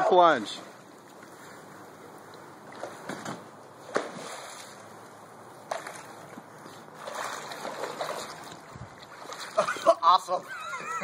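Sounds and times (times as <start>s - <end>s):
pool water sloshing: 0.0s - 11.0s.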